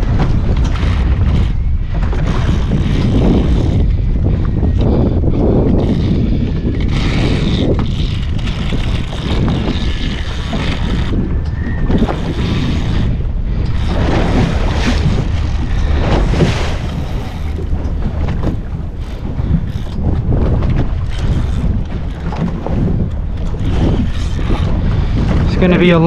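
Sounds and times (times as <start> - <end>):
sea water washing around boat: 0.0 - 26.0
wind buffeting microphone: 0.0 - 26.0.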